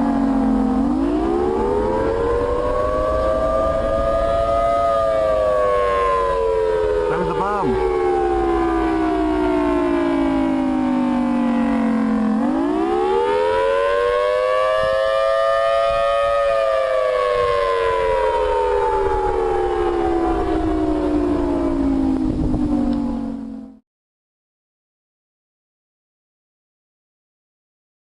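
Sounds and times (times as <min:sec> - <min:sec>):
warning siren wailing: 0:00.0 - 0:23.8.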